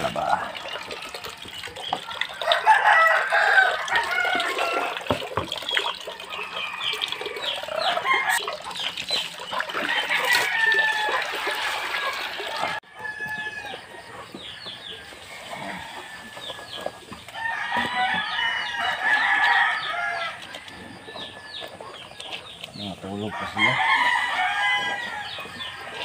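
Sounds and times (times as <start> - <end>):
chickens clucking: 0.0 - 26.0
roosters crowing: 2.0 - 5.4, 6.2 - 8.6, 9.6 - 22.2, 22.9 - 26.0.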